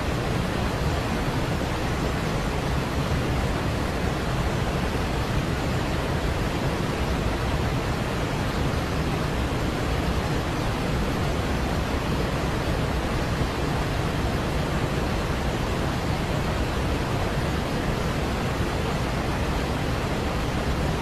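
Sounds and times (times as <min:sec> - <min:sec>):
steady pink noise hiss: 0:00.0 - 0:21.0.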